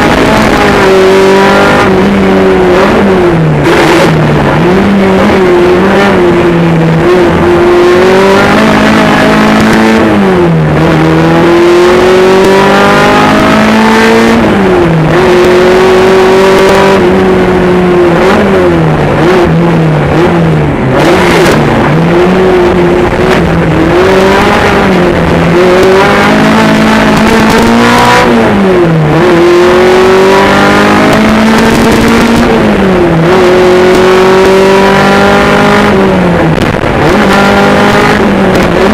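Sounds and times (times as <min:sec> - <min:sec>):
car engine revving hard: 0:00.0 - 0:38.9.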